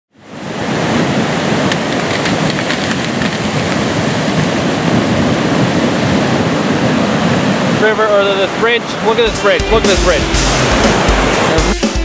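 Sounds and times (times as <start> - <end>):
river rushing: 0.2 - 12.0.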